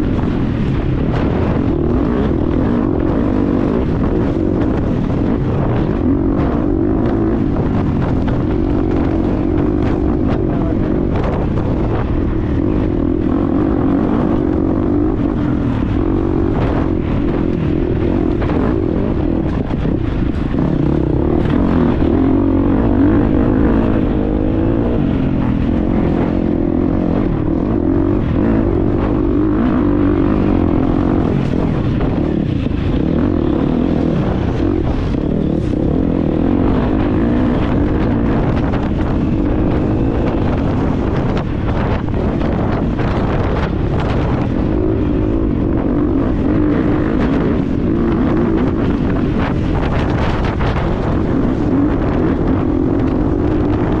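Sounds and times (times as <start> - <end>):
motorcycle engine running hard: 0.0 - 54.0
wind buffeting microphone: 0.0 - 54.0.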